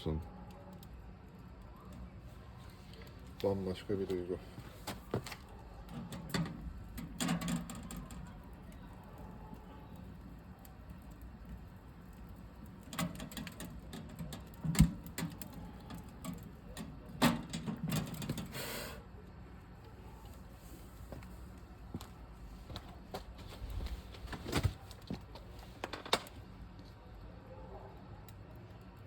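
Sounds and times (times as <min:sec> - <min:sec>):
wood fire crackling in metal stove: 0:00.0 - 0:29.0.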